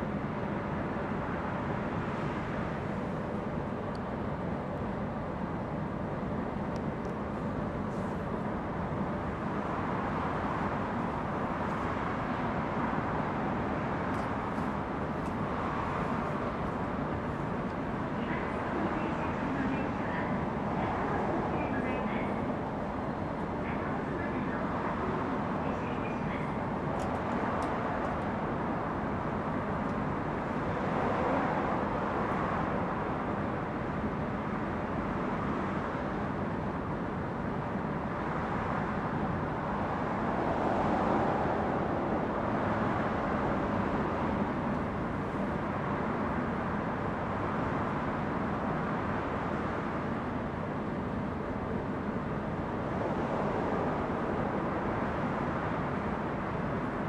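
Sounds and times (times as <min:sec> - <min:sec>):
train interior rumble and hiss: 0:00.0 - 0:57.0.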